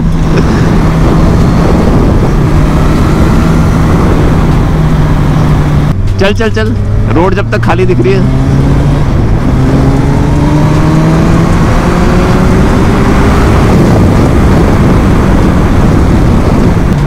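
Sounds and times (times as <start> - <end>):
motorcycle engine accelerating: 0.0 - 17.0
wind rushing: 0.0 - 17.0.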